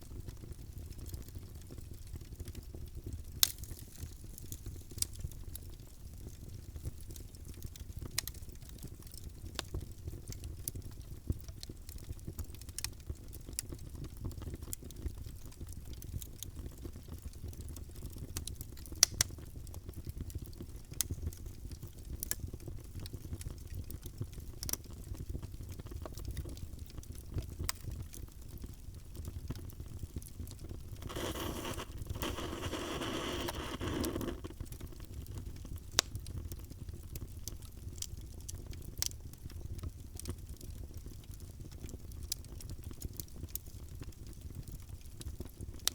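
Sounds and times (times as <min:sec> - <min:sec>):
wood fire crackling: 0:00.1 - 0:45.9.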